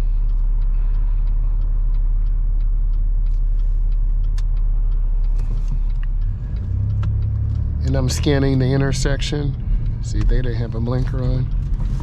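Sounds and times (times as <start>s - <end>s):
car rumble from inside cabin: 0.0s - 12.0s
faint regular ticking: 0.0s - 12.0s.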